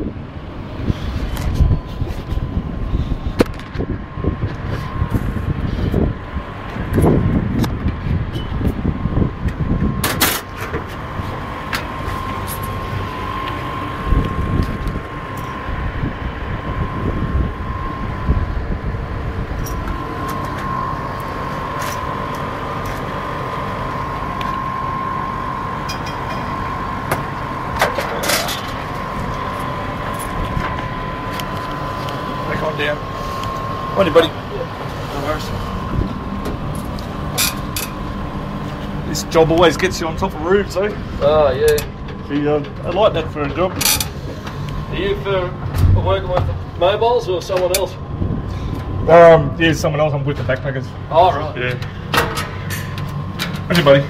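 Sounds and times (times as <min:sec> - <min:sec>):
wind rumble on microphone: 0:00.0 - 0:25.6, 0:26.3 - 0:43.3, 0:44.5 - 0:50.1
rooftop machinery whine and hum: 0:00.0 - 0:54.0.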